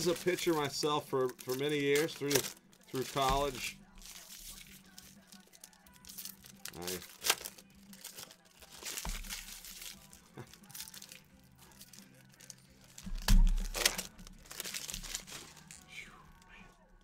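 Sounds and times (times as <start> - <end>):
cards rustling and flicking: 0.0 - 5.5, 6.1 - 15.9.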